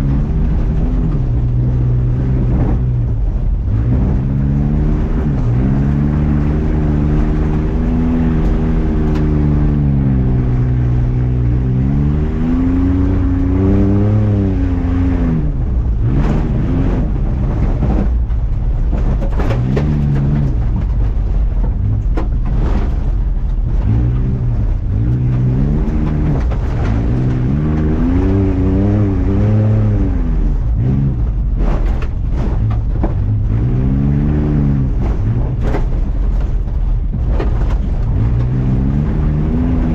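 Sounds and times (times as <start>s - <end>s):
knocks and rattles: 0.0s - 39.9s
truck engine revving: 0.0s - 39.9s.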